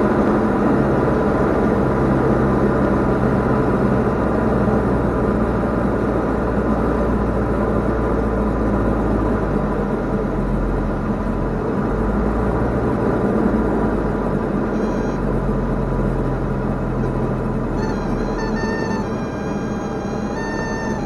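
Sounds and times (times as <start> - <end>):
propeller plane engine running: 0.0 - 21.0.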